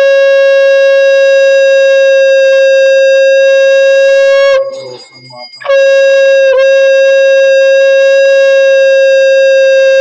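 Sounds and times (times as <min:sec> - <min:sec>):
conch shell blown: 0:00.0 - 0:10.0.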